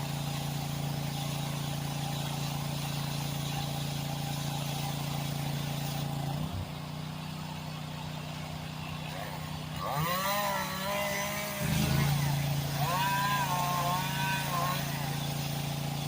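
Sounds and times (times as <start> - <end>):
small gasoline engine running: 0.0 - 16.0.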